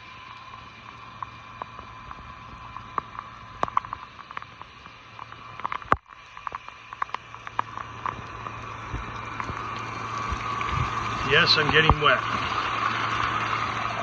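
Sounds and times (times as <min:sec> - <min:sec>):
sprinkler spray hissing: 0:00.0 - 0:14.0
water drops pattering: 0:02.7 - 0:14.0.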